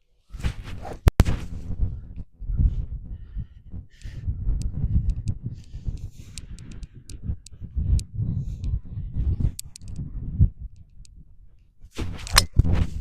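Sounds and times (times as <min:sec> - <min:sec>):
wind buffeting microphone: 0:00.3 - 0:13.0.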